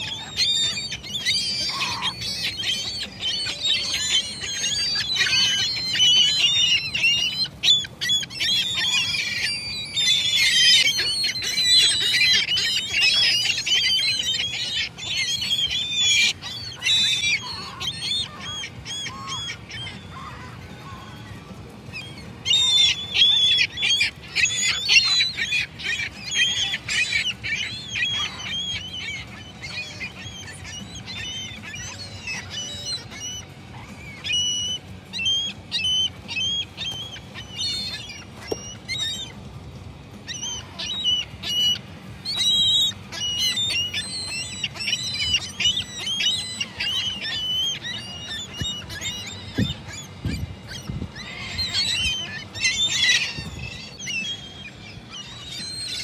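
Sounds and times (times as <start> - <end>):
gulls calling: 0.0 - 56.0.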